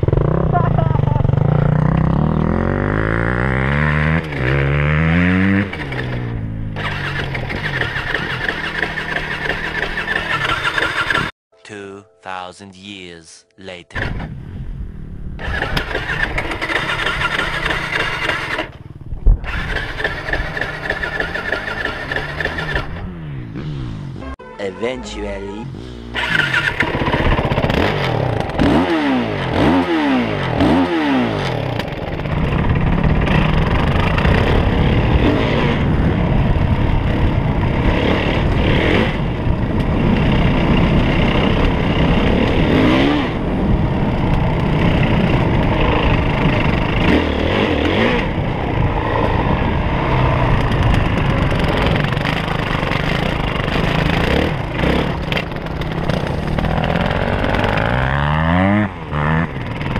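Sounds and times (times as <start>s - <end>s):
dirt bike engine revving: 0.0s - 11.3s, 15.4s - 18.8s, 19.4s - 24.4s, 25.5s - 59.9s.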